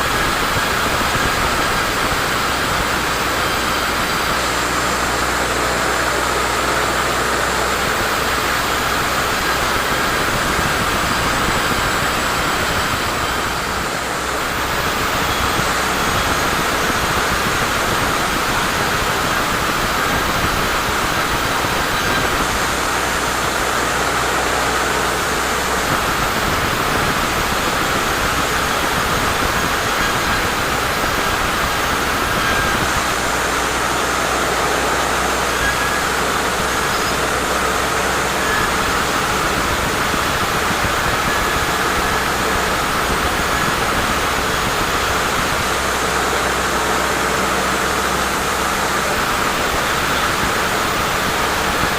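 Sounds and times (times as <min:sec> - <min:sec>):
sawmill saw cutting log: 0:00.0 - 0:51.9.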